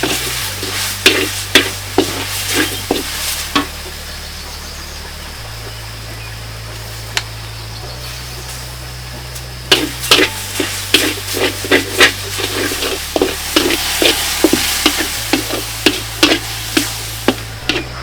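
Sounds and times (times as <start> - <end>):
food hissing in hot pan: 0.0 - 4.5, 7.9 - 18.0.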